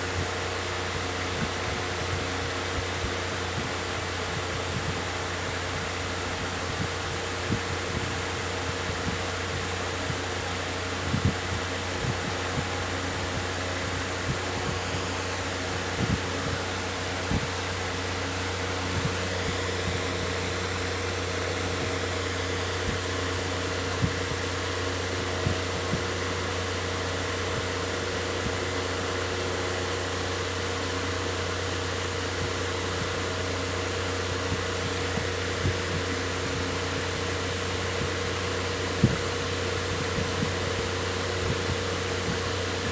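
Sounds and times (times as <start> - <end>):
electric fan whirring: 0.0 - 42.9.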